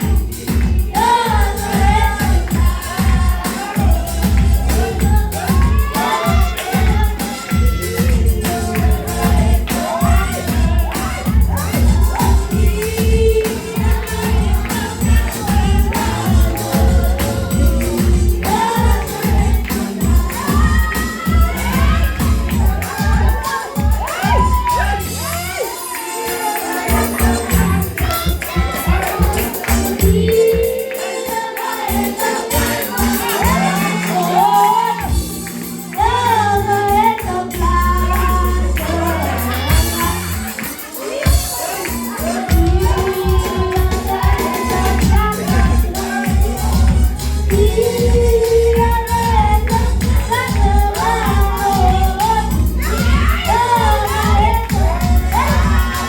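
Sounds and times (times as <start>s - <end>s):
bass notes: 0.0s - 25.7s, 26.8s - 30.8s, 32.5s - 40.6s, 41.3s - 56.0s
drums: 0.0s - 56.0s
gospel singing with band: 0.0s - 56.0s.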